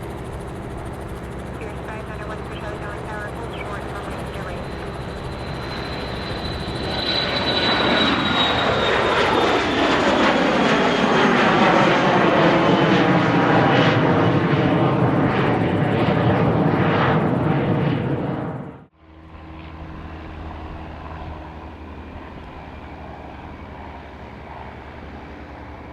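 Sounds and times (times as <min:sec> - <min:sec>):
airplane engines passing: 0:00.0 - 0:25.9.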